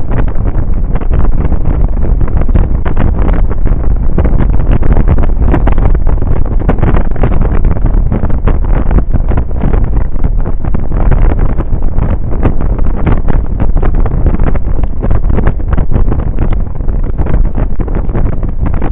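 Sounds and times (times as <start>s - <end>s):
deep rumble: 0.0s - 18.9s
wind buffeting microphone: 0.0s - 18.9s.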